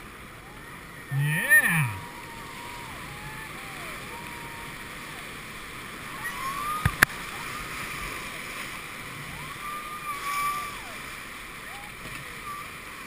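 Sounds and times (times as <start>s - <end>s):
whitewater rushing and splashing: 0.0s - 13.0s.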